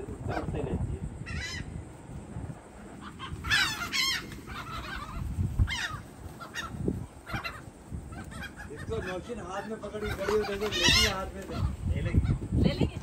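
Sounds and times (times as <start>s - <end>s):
seagulls calling: 1.2s - 1.8s, 2.9s - 12.8s.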